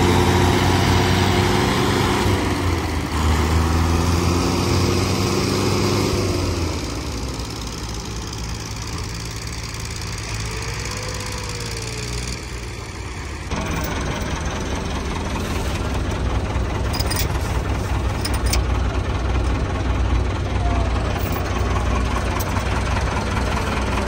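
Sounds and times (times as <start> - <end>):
diesel tractor engines idling: 0.0 - 24.0.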